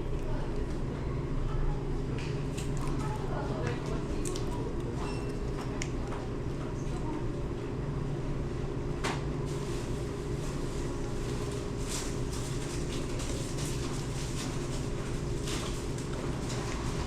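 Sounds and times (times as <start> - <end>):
low mechanical rumble and hum: 0.0 - 17.0.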